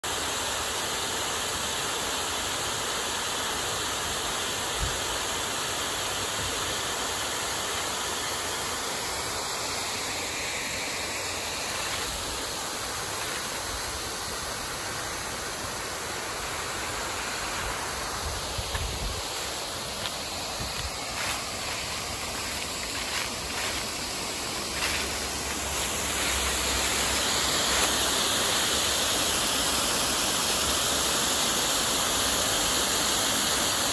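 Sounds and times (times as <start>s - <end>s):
water rushing over dam spillway: 0.0s - 33.9s.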